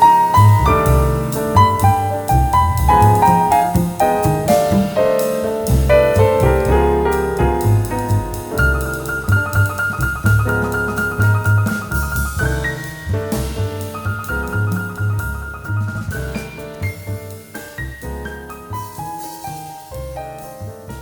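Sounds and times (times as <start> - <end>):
bass line: 0.0 - 19.2
jazz piano: 0.0 - 21.0.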